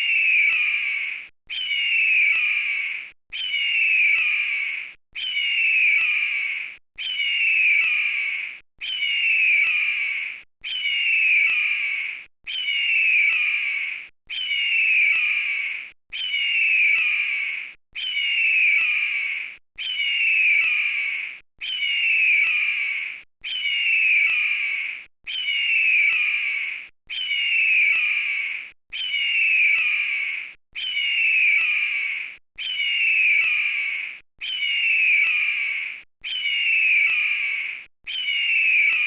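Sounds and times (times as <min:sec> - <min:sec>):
eagle screaming whistle call: 0:00.0 - 0:39.0.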